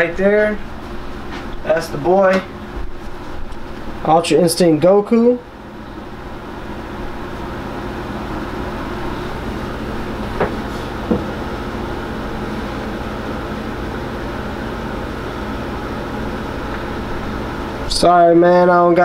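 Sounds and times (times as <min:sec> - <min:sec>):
steady droning background noise: 0:00.0 - 0:19.0.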